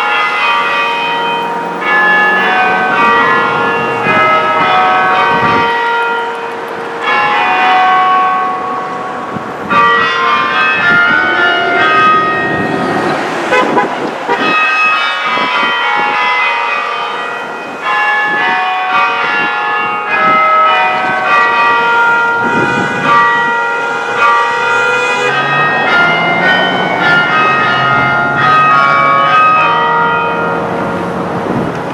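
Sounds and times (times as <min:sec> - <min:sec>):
tower bells chiming: 0:00.0 - 0:31.6
car passing: 0:00.0 - 0:31.9.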